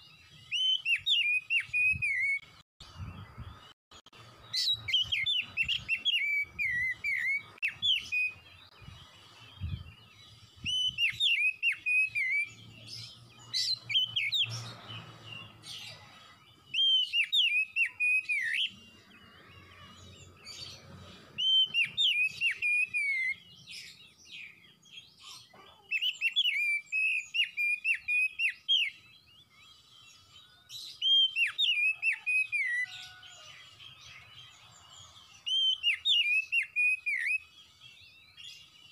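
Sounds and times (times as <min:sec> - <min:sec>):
bird whistled song: 0:00.0 - 0:03.7, 0:04.4 - 0:20.7, 0:21.3 - 0:38.9
high bird chirps: 0:00.0 - 0:38.9.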